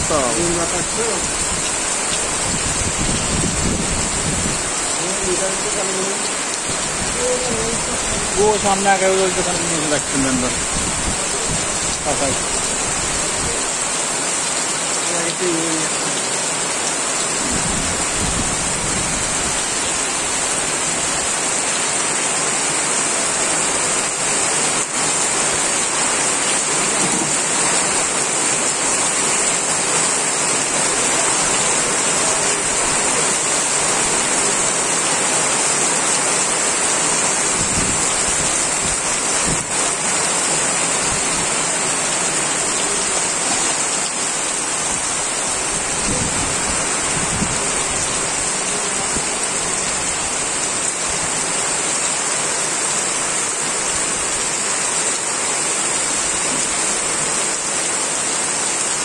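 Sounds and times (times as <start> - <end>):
heavy rain on road and roof: 0.0 - 59.0.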